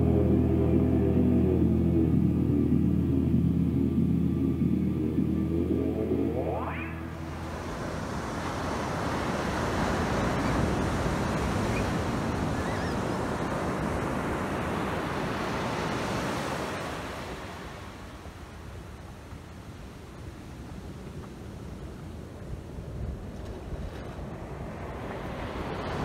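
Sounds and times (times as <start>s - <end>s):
ocean surf breaking: 0.0s - 18.6s, 23.8s - 26.0s.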